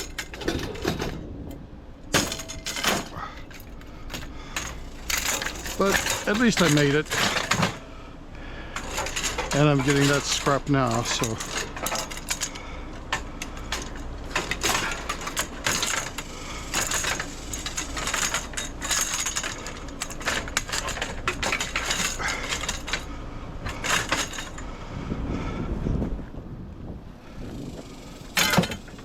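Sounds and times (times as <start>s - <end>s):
scrap metal clanking: 0.0s - 1.3s, 2.1s - 8.0s, 8.6s - 24.7s.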